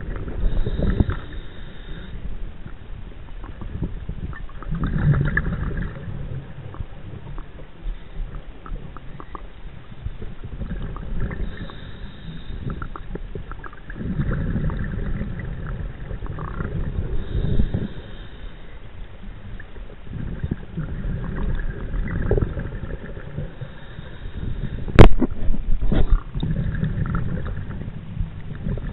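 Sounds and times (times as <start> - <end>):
faint regulator hiss: 0.0 - 4.7, 5.4 - 28.9
exhaled bubbles underwater: 0.0 - 28.9.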